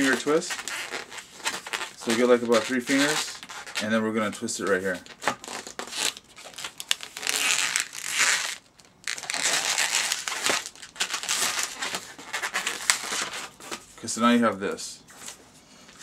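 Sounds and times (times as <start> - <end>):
balloons rubbing and squeaking: 0.0 - 13.9.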